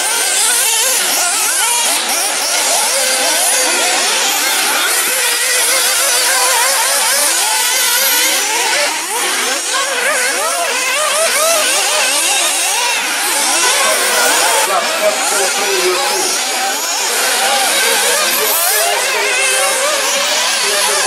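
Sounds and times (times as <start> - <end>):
model car engines whining: 0.0 - 21.0.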